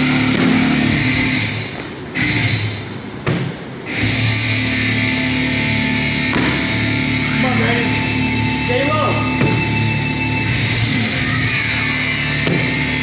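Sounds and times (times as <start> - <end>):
distorted guitar: 0.0 - 3.2, 3.8 - 13.0
rock drums: 0.0 - 13.0.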